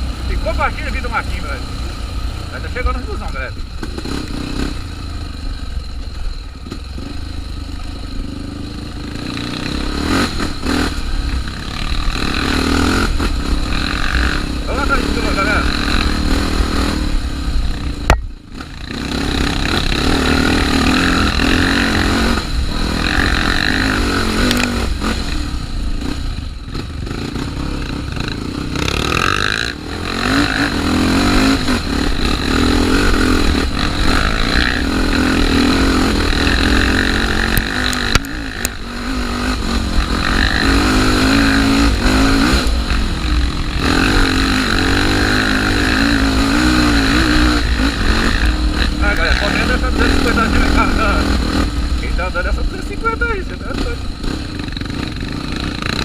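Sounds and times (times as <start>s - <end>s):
motorcycle engine under load: 0.0s - 56.0s.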